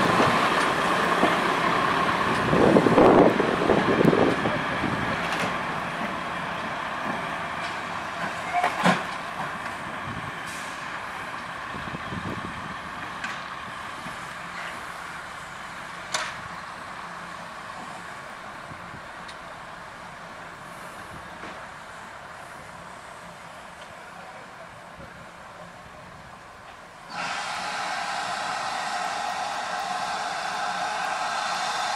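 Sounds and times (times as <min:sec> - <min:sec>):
train hiss and engine rumble: 0:00.0 - 0:31.9.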